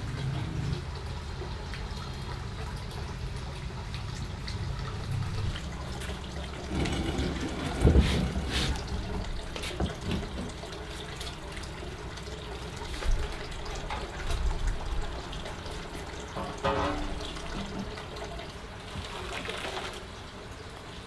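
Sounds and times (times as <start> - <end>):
tap water splashing into sink: 1.4 - 20.1.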